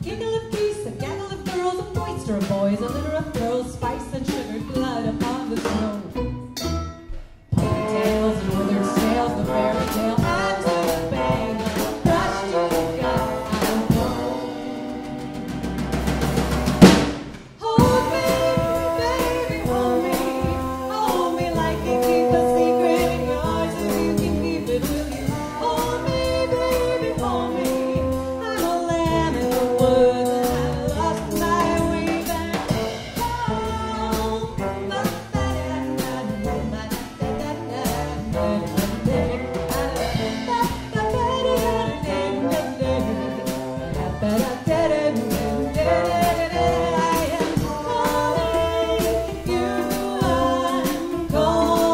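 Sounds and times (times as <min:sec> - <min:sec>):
live band playing: 0:00.0 - 0:51.9.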